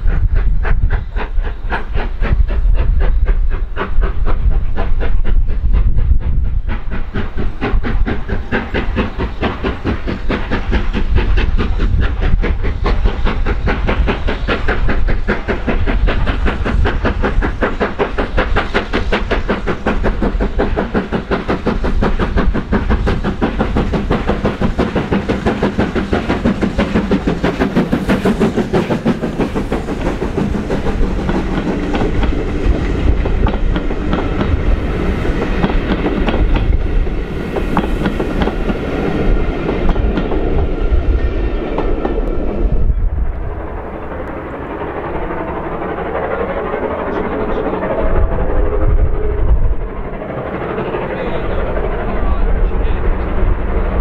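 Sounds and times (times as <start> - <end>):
train wheels clattering over rail joints: 0.0 - 54.0.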